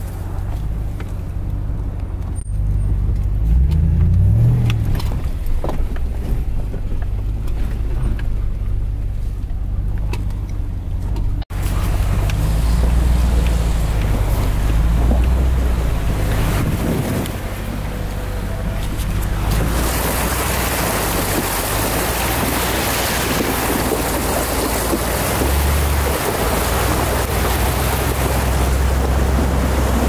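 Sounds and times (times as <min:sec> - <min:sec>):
truck engine low rumble: 0:00.0 - 0:30.0.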